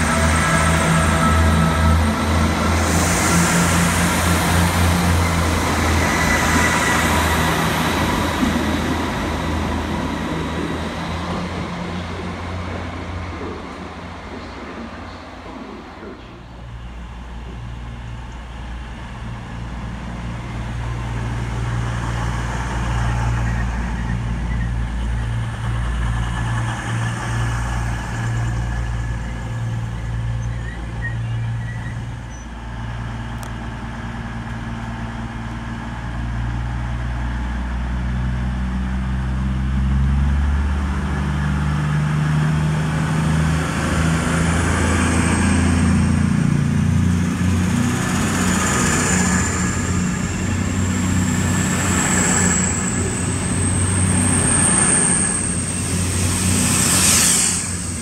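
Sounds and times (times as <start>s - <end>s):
diesel train engine running: 0.0s - 58.0s.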